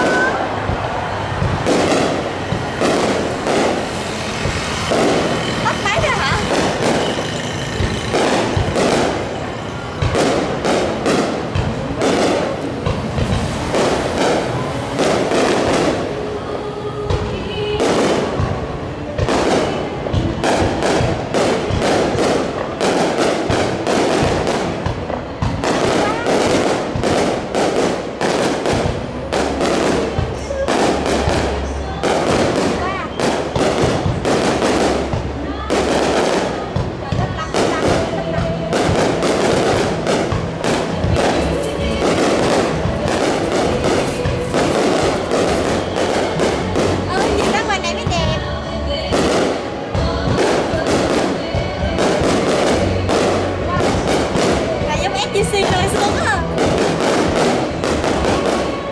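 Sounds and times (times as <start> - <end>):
fireworks booming and crackling: 0.0 - 58.9
music playing: 0.0 - 58.9.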